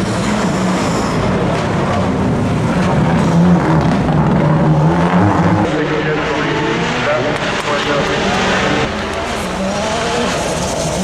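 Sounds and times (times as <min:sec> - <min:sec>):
rally car engine shifting gears: 0:00.0 - 0:11.0.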